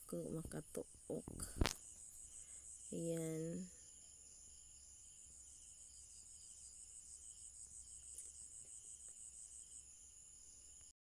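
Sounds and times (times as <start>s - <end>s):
crickets chirping: 0.0s - 10.9s
high insect drone: 0.0s - 10.9s.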